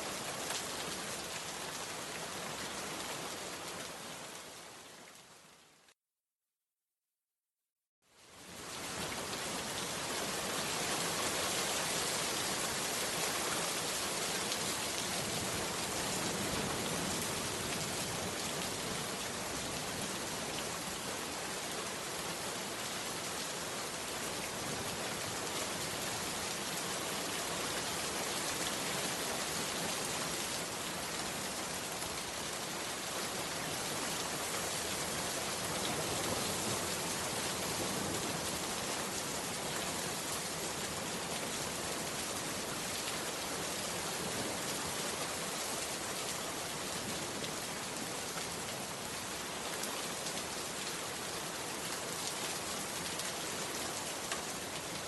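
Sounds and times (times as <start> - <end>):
heavy rain on a hut roof: 0.0 - 6.0, 8.1 - 55.0.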